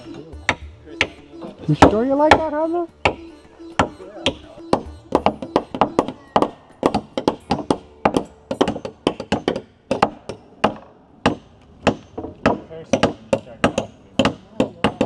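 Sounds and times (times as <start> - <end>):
hammers striking wood and nails: 0.4 - 15.0.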